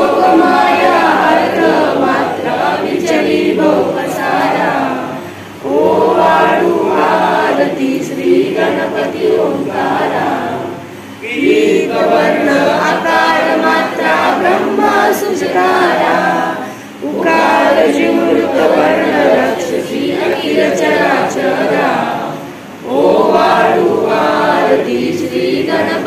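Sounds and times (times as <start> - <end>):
group singing devotional song: 0.0 - 26.0.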